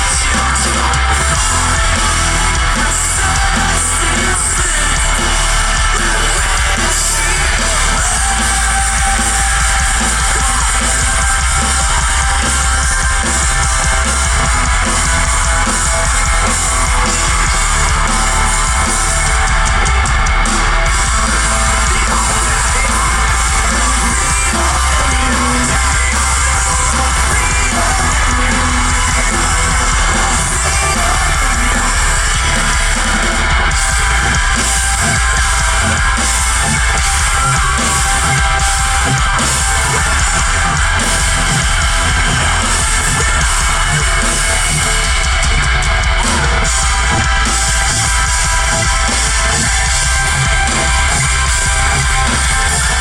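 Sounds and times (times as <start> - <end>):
bass: 0.0 - 53.0
distorted electric guitars: 0.0 - 53.0
drums: 0.0 - 53.0
yelled vocals: 0.0 - 53.0.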